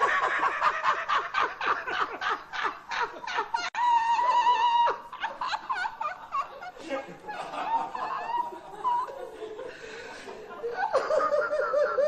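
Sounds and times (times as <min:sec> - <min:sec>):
man laughing uncontrollably: 0:00.0 - 0:09.3, 0:10.7 - 0:12.0.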